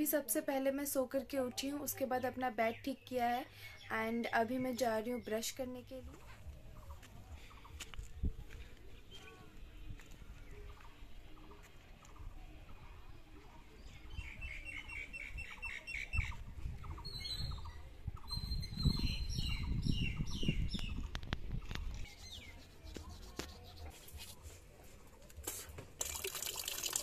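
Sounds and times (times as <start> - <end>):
small birds chirping: 1.9 - 23.9.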